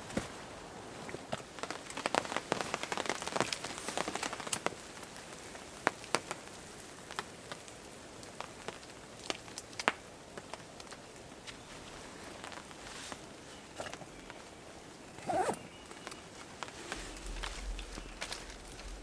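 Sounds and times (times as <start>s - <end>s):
faint steady hiss: 0.0s - 19.0s
rain drips pattering: 0.0s - 19.0s.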